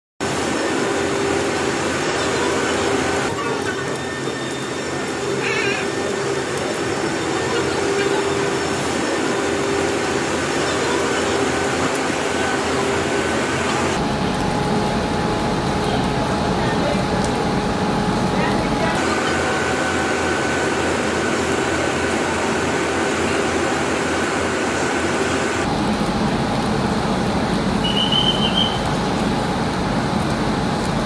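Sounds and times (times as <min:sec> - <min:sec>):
locomotive mechanical hum: 0:00.3 - 0:31.0.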